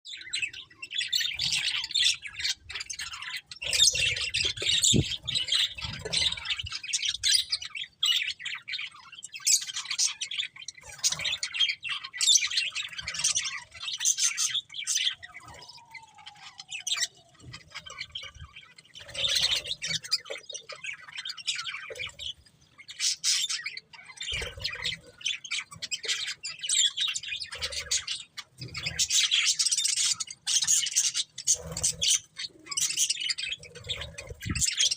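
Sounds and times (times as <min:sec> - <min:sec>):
budgerigars chattering and chirping: 0:00.1 - 0:34.9.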